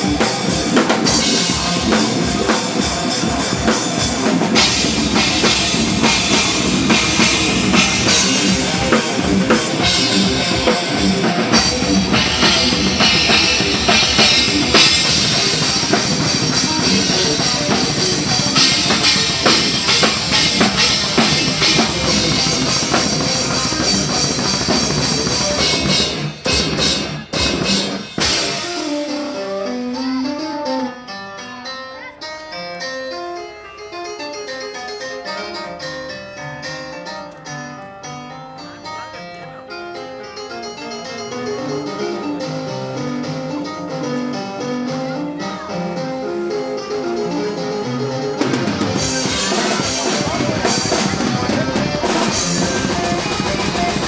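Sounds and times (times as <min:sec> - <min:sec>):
harpsichord-like keyboard melody: 0:00.0 - 0:54.0
rock band playing: 0:00.0 - 0:54.0.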